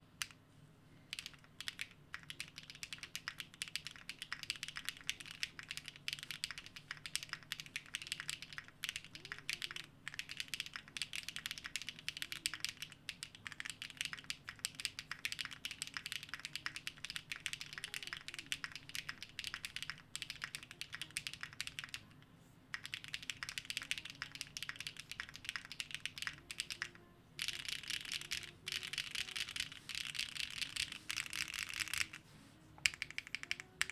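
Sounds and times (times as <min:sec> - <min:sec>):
mechanical keyboard typing: 0:01.1 - 0:22.0, 0:22.7 - 0:32.2, 0:32.8 - 0:33.9.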